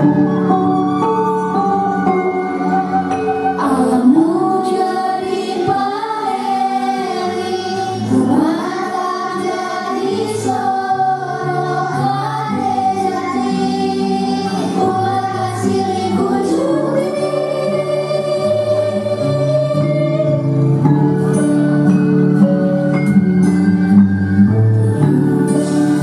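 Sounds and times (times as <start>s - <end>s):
children singing together: 0.0s - 23.6s
backing music: 0.0s - 26.0s.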